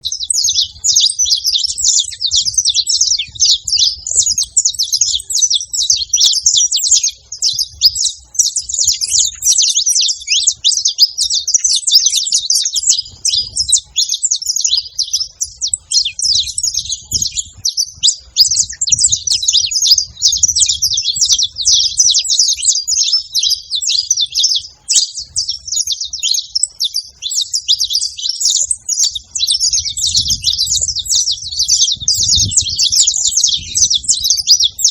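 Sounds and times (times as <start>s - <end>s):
finches chirping and singing: 0.0s - 34.9s.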